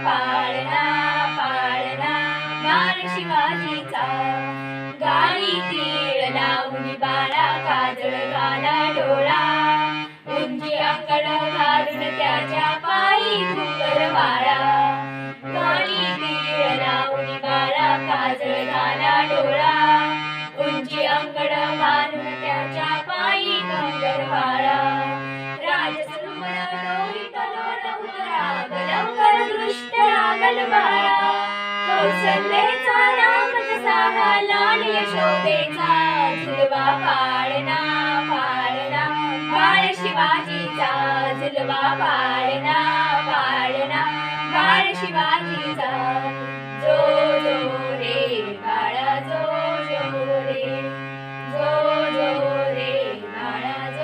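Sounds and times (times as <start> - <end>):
instrumental accompaniment: 0.0 - 54.0
women singing together: 0.0 - 54.0.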